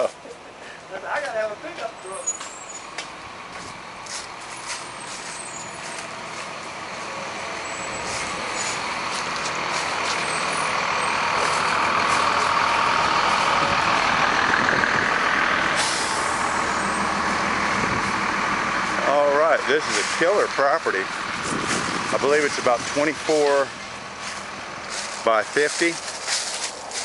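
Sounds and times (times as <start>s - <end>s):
passing road vehicle: 0.0s - 27.0s.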